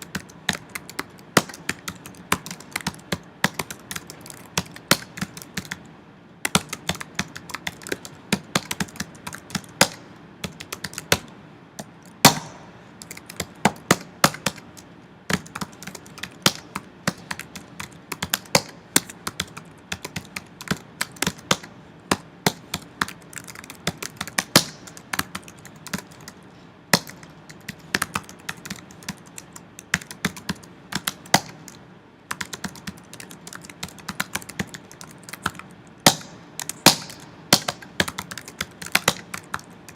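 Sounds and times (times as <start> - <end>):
computer keyboard typing: 0.0 - 5.9, 6.5 - 11.3, 13.0 - 14.7, 15.3 - 21.7, 22.5 - 26.4, 27.0 - 35.7, 36.6 - 39.9.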